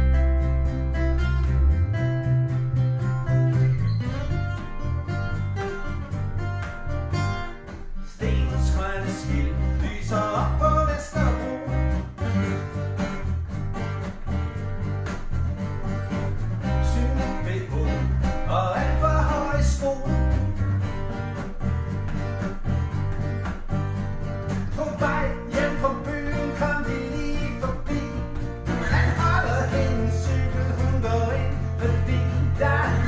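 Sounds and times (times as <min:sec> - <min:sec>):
acoustic guitar strumming chords: 0:00.0 - 0:33.0
bass guitar: 0:00.0 - 0:33.0
second guitar: 0:00.0 - 0:33.0.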